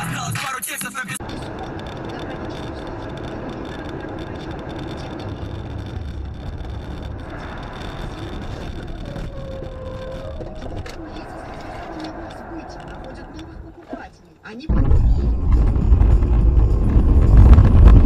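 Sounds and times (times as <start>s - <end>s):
car engine and tyres rumbling: 1.2s - 18.0s.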